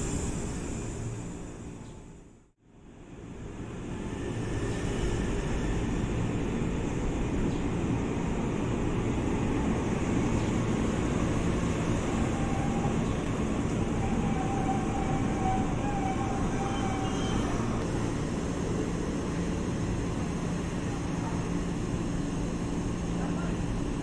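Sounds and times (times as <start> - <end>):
train wheels rumbling: 3.5 - 24.0.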